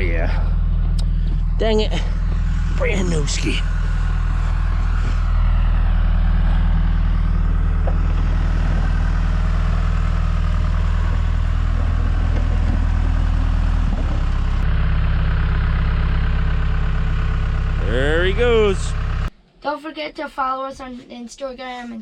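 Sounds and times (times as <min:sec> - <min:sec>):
diesel engine running: 0:00.0 - 0:19.3.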